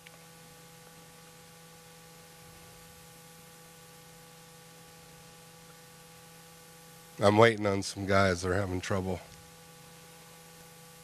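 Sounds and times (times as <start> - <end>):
low electrical hum: 0.0 - 11.0
steady hiss: 0.0 - 11.0
thin steady tones: 0.0 - 11.0.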